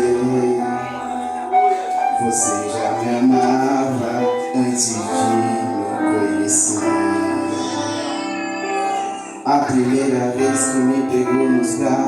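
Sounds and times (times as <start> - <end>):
instrumental accompaniment: 0.0 - 12.0
person singing a melody: 0.0 - 12.0.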